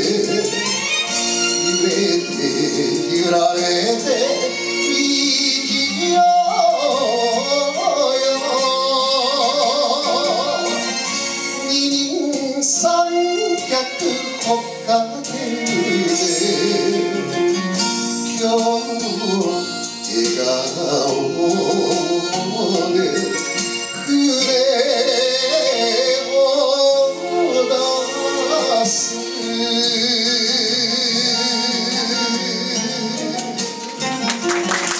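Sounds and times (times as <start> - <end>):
man singing into microphone: 0.0 - 33.9
instrumental accompaniment: 0.0 - 34.9.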